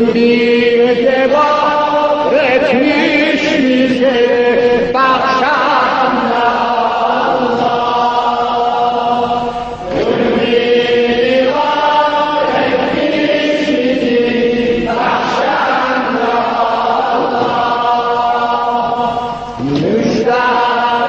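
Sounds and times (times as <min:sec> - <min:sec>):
person chanting long held notes: 0:00.0 - 0:21.0.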